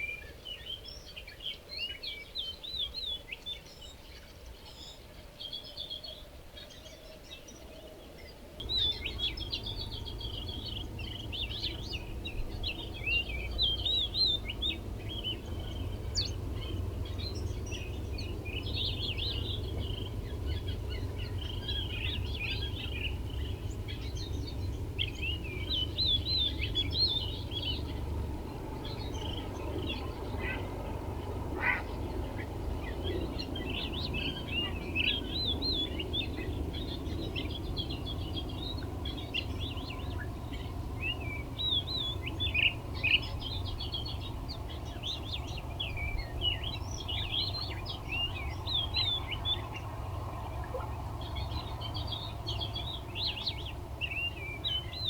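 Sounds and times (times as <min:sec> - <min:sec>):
small birds chirping: 0:00.0 - 0:55.0
steady low rumble: 0:08.6 - 0:55.0.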